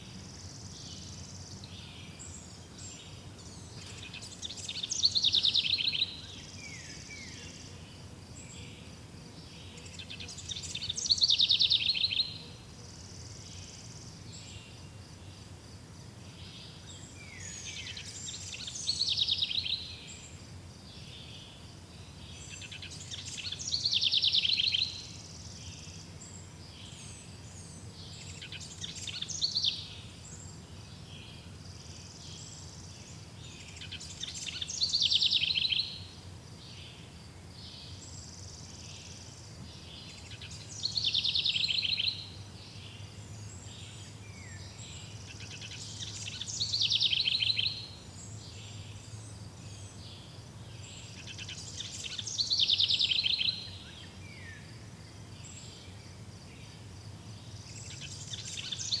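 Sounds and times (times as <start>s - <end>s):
faint bird chirping: 0.0s - 59.0s
insect-like hiss: 0.0s - 59.0s.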